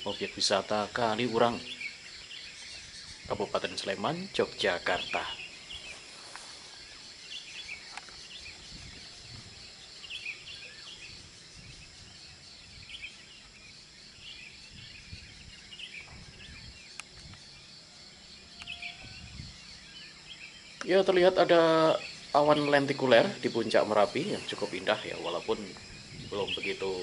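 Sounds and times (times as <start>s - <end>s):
high-pitched insect chorus: 0.0s - 27.0s
songbirds chirping: 0.0s - 27.0s.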